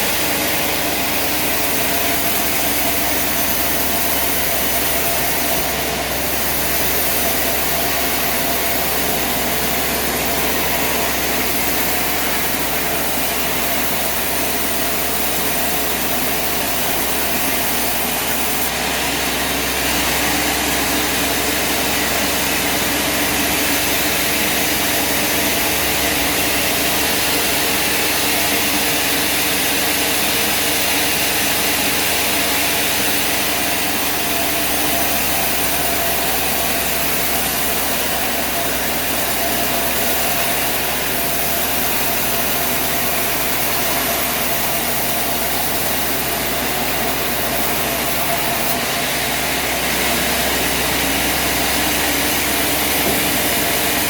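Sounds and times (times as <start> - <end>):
engine-driven machinery drone: 0.0 - 54.0.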